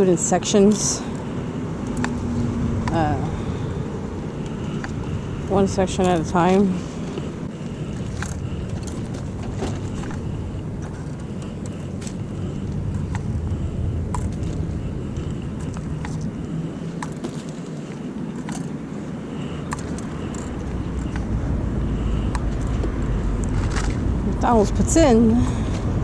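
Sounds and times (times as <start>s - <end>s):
low rumble of vehicles: 0.0s - 26.0s.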